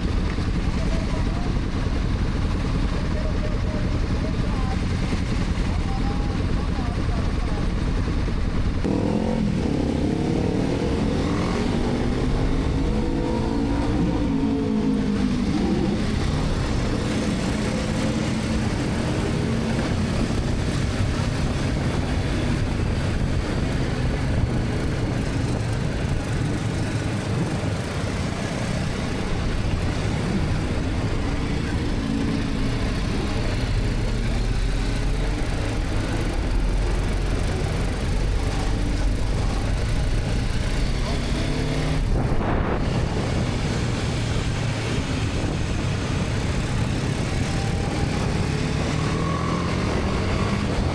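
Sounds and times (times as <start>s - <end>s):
motorcycle engine running: 0.0s - 50.9s
wind and road noise: 0.0s - 50.9s.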